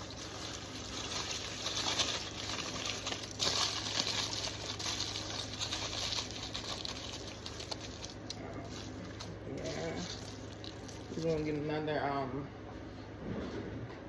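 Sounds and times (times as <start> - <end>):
aluminum foil crinkling: 0.0 - 11.7.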